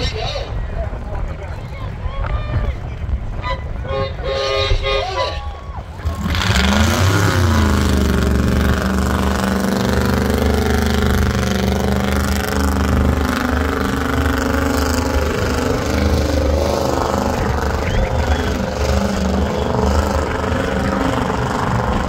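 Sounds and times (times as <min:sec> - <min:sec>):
truck engine revving: 0:03.0 - 0:22.0.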